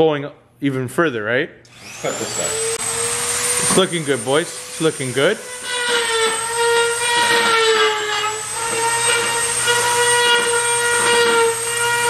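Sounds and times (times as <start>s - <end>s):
power tool whining: 1.7s - 12.0s.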